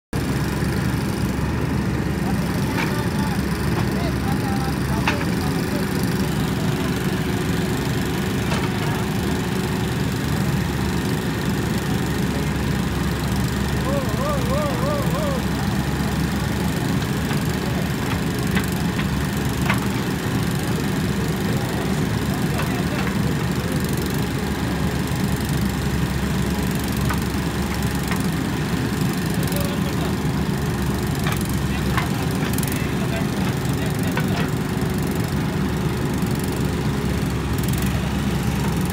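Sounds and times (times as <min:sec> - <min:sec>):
diesel engine running: 0:00.1 - 0:38.9
backhoe arm working: 0:00.3 - 0:38.9.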